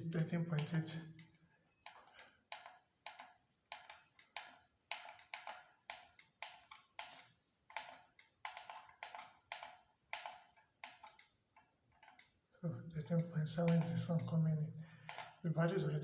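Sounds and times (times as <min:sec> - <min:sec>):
sharp ticks: 0:00.0 - 0:11.4, 0:13.0 - 0:14.5.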